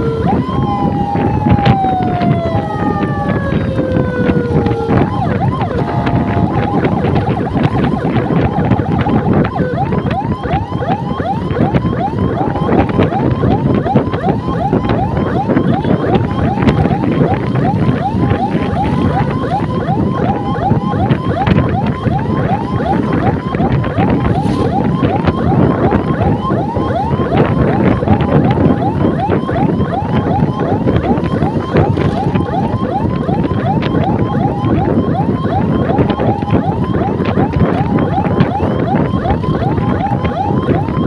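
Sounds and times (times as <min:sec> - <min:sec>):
siren yelping: 0:00.0 - 0:41.0
wind and road noise: 0:00.0 - 0:41.0.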